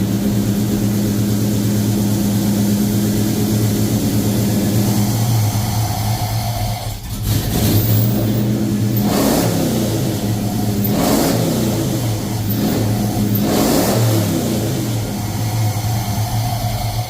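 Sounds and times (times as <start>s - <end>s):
pickup truck engine revving: 0.0s - 17.0s.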